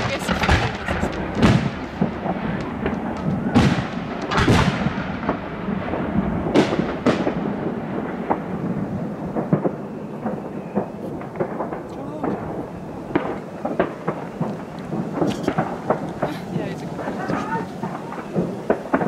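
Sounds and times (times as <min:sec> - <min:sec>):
firework booms with rumbling echo: 0:00.0 - 0:19.0.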